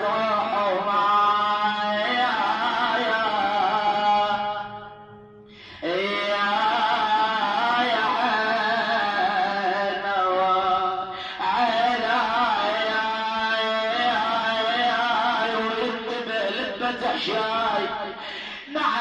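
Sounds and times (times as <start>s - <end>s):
man chanting a lament: 0.0s - 19.0s.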